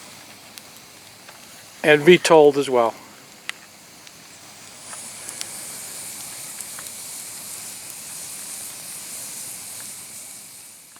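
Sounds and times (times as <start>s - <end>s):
campfire hissing: 0.0s - 10.9s
fire pops and crackles: 0.0s - 10.9s.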